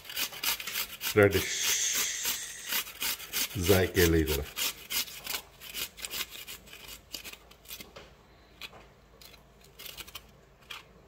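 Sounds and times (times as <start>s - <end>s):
radish grating on metal grater: 0.0s - 7.8s, 9.2s - 10.9s.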